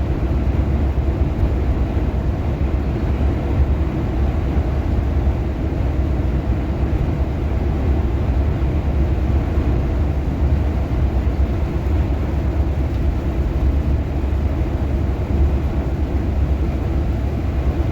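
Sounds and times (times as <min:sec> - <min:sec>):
low rumble of moving vehicle: 0:00.0 - 0:17.9.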